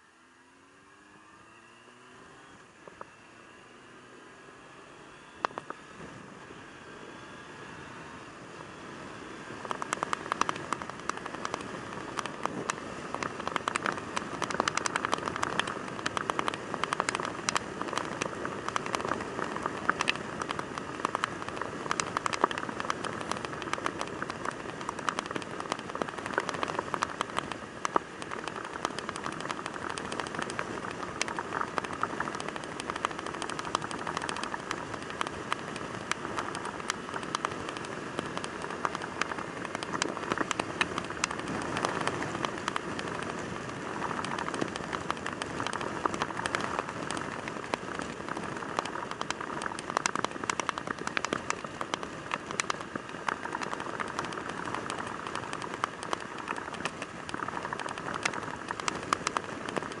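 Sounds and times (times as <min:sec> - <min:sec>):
motorcycle engine and road noise: 0:00.0 - 1:00.0
raindrops ticking on camera: 0:09.5 - 1:00.0.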